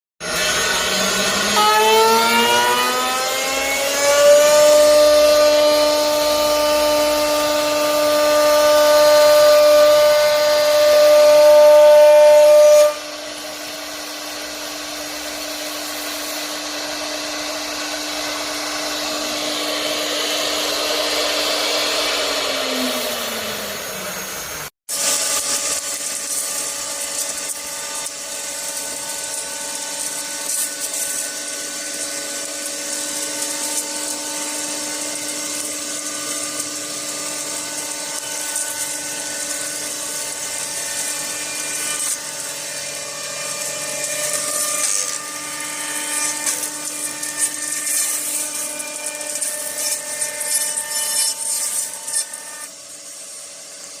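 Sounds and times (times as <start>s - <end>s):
jointer machine whining: 0.2s - 54.0s.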